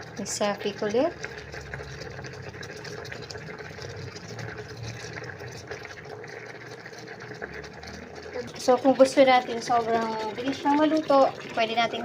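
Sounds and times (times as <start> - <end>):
water boiling in a cooker: 0.0 - 12.0.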